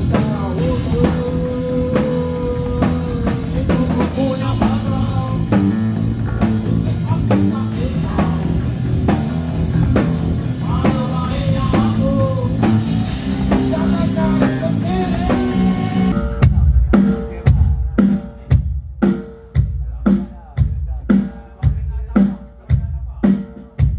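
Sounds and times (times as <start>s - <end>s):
man singing: 0.0s - 18.7s, 19.5s - 23.9s
guitars and bass: 0.0s - 20.9s
drum kit beat: 0.0s - 23.9s.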